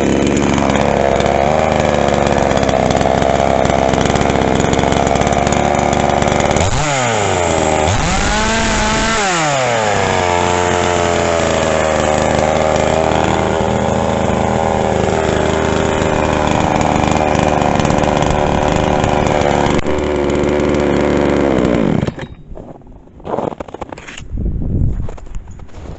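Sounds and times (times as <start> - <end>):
chainsaw engine running: 0.0 - 22.4.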